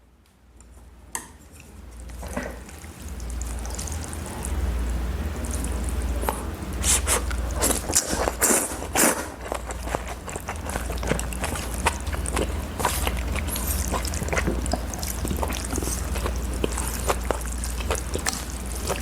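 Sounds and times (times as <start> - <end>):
low steady hum: 0.0 - 19.0
chewing and wet mouth noises: 1.5 - 19.0
slurps and smacks: 1.5 - 19.0.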